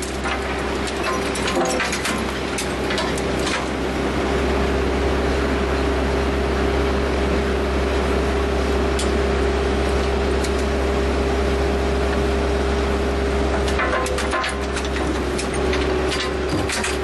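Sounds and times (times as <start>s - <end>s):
machine hum and rumble: 0.0s - 17.0s.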